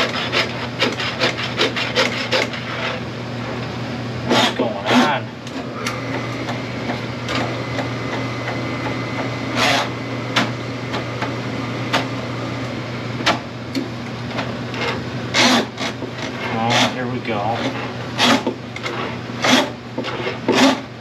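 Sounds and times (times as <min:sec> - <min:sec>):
drain snake motor humming: 0:00.0 - 0:21.0.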